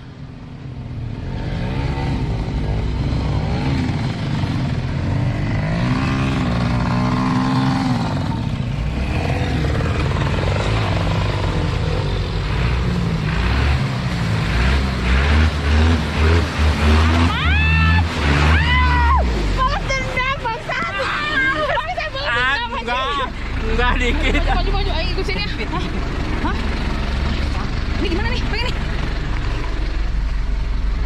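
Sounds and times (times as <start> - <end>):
vehicle engine revving: 0.8 - 31.0.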